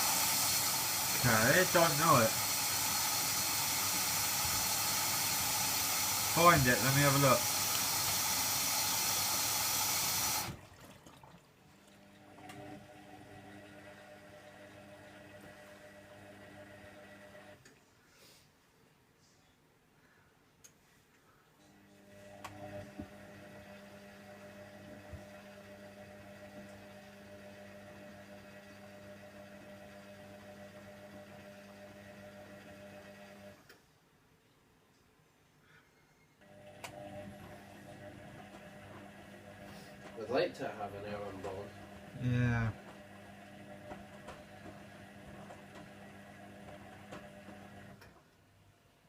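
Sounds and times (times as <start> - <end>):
washer dryer humming: 0.0 - 17.6, 21.8 - 33.6, 36.5 - 48.2.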